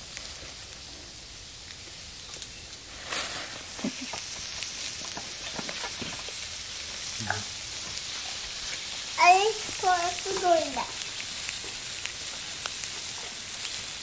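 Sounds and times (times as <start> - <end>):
fish sizzling on metal sheet: 0.0 - 14.0.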